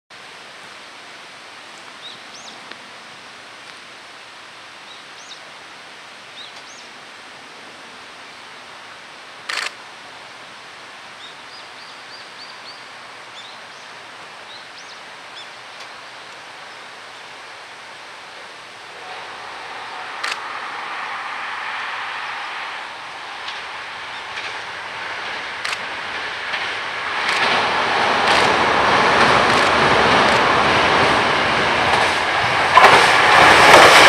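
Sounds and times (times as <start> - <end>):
outdoor background hiss: 0.1 - 34.0.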